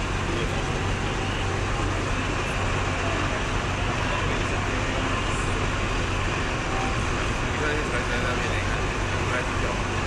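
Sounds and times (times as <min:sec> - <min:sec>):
fire engines idling: 0:00.0 - 0:10.0
street traffic noise: 0:00.0 - 0:10.0.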